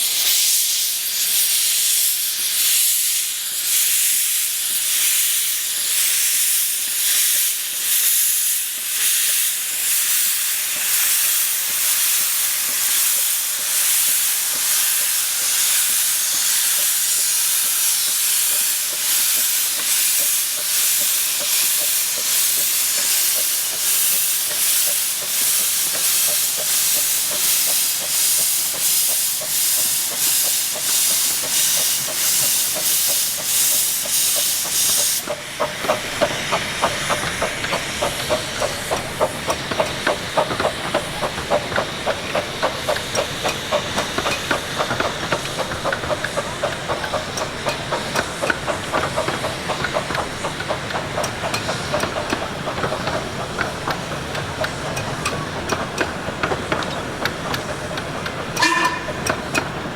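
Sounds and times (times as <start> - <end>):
pulsing steam hiss: 0.0 - 59.9
steam locomotive exhaust beats: 0.0 - 59.9.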